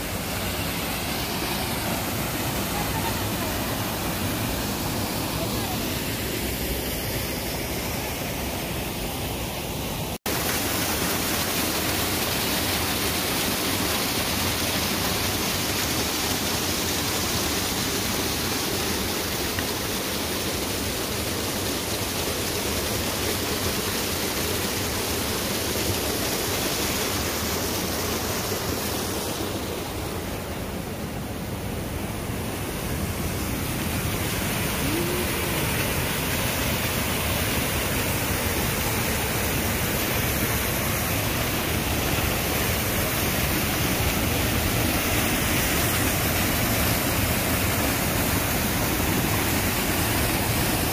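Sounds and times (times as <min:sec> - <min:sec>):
river rapids rushing over rocks: 0:00.0 - 0:50.9.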